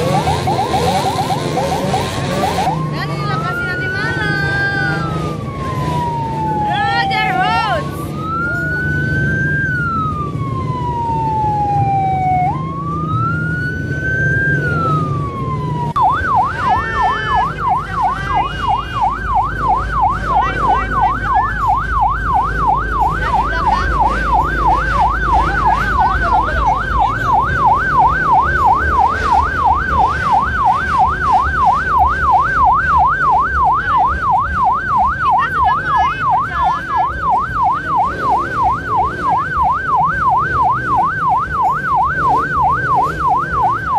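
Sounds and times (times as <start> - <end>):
electronic siren wailing and yelping: 0.0 - 43.9.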